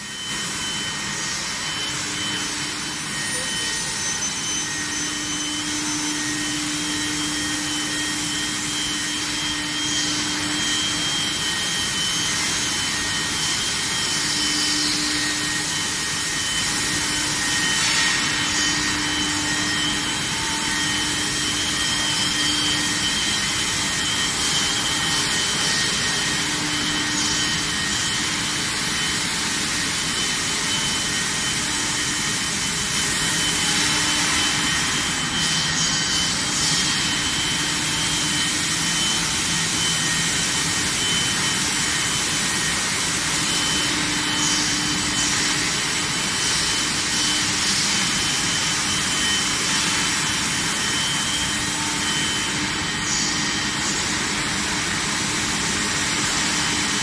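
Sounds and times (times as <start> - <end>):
high steady whines: 0.0 - 57.0.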